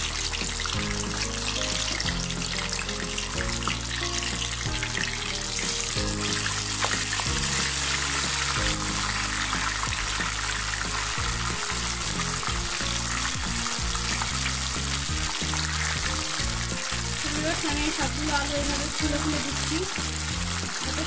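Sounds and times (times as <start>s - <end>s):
potatoes deep-frying in oil: 0.0s - 21.0s
soft background music: 0.0s - 21.0s
spatula stirring in oil: 0.0s - 21.0s.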